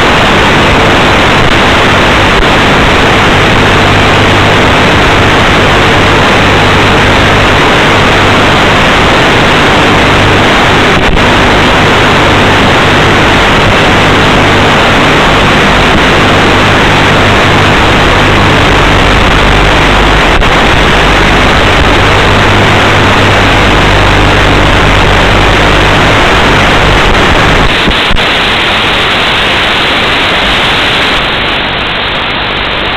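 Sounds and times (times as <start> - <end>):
faint steady hum: 0.0 - 32.9
static hiss: 0.0 - 32.9.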